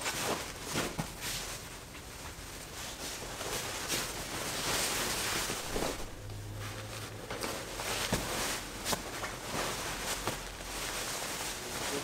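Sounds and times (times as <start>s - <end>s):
bedding rustling: 0.0s - 12.0s.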